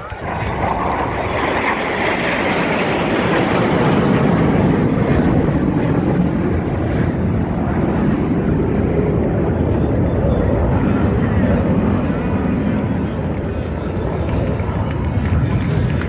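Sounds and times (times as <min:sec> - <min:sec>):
jet aircraft flying past: 0:00.0 - 0:16.0.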